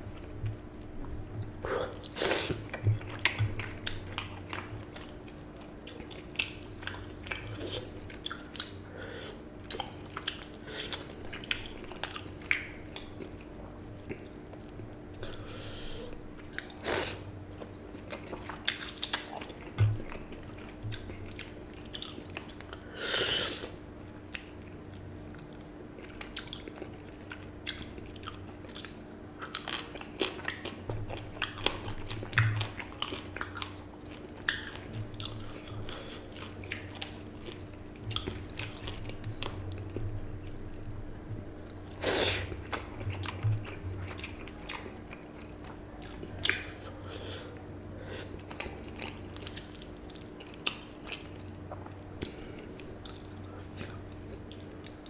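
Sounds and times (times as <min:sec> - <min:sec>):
faint steady hum: 0:00.0 - 0:55.0
close chewing and mouth clicks: 0:00.1 - 0:15.4, 0:16.1 - 0:22.9, 0:23.6 - 0:40.6, 0:41.6 - 0:55.0.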